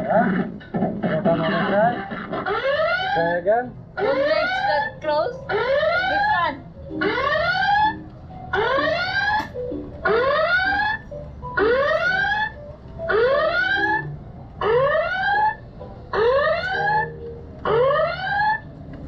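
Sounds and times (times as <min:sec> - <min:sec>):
arcade machine rising whoop tone: 0:02.4 - 0:03.4, 0:04.0 - 0:18.8.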